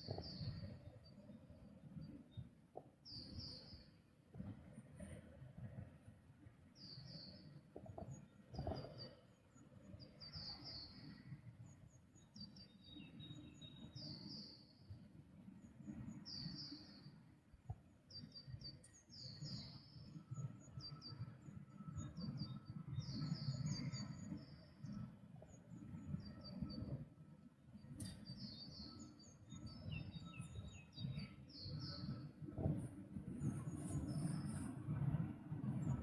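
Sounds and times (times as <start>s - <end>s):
songbirds chirping: 0.0s - 4.0s, 6.6s - 34.7s.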